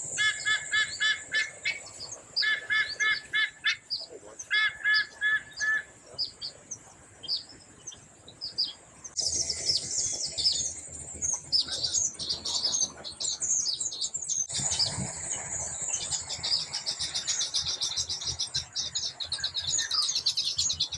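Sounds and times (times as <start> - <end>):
weaver birds chattering: 0.0 - 20.9.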